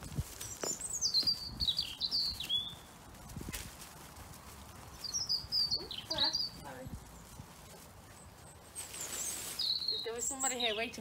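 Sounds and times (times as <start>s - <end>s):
songbird singing: 0.0s - 3.5s, 4.4s - 11.0s.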